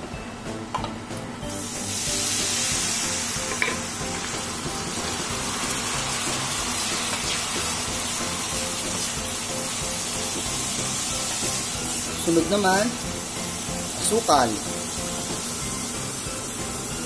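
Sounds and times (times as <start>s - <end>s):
sauce sizzling in a hot pan: 1.5s - 17.0s.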